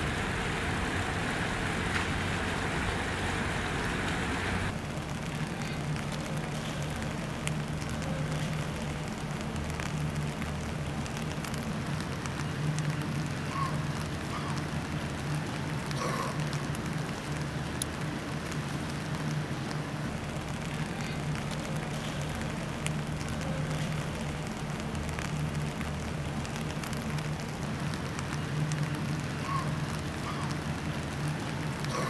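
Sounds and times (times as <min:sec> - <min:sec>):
low steady hum: 0:00.0 - 0:32.0
rain on wooden boardwalk: 0:00.0 - 0:32.0.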